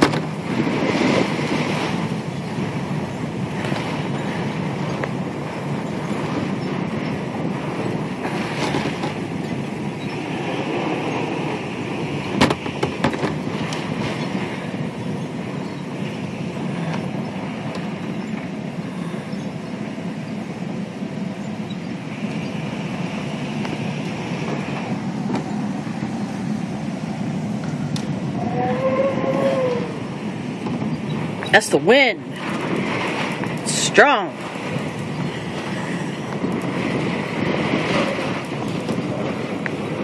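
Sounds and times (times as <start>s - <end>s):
storm wind roaring: 0.0s - 40.0s.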